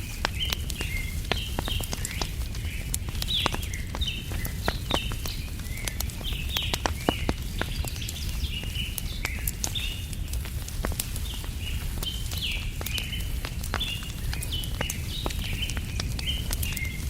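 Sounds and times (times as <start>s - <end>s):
small birds chirping: 0.0s - 17.0s
wood fire crackling: 0.0s - 17.0s.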